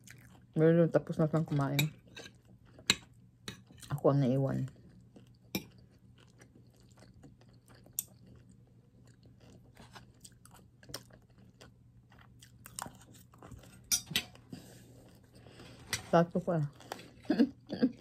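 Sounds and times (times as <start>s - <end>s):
person chewing food: 0.0s - 0.6s, 1.9s - 4.0s, 4.6s - 15.9s, 16.7s - 18.0s.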